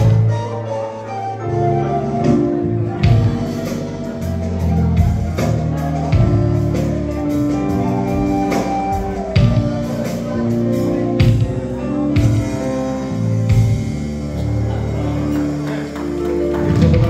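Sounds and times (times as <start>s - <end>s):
live band playing folk song: 0.0s - 17.0s.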